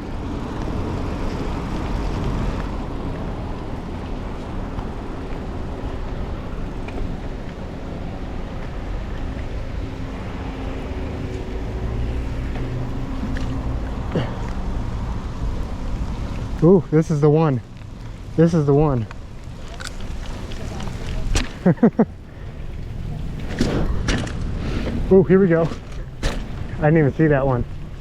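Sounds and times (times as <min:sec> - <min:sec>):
bike tyre noise: 0:00.0 - 0:28.0
rain: 0:00.0 - 0:28.0.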